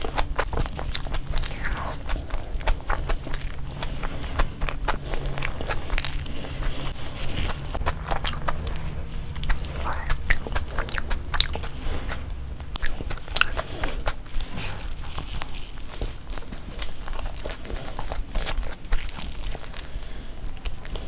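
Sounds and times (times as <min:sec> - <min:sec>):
steady low hum: 0:00.0 - 0:21.0
wet chewing smacks: 0:00.0 - 0:21.0.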